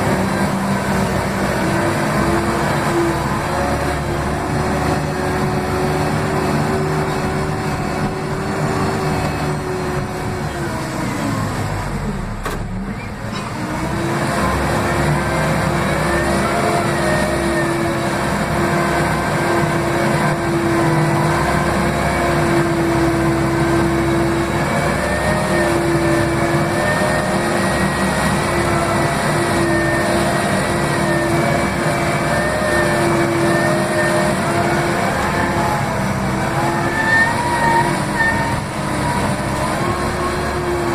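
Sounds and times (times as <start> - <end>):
diesel engine at high revs: 0.0 - 40.9.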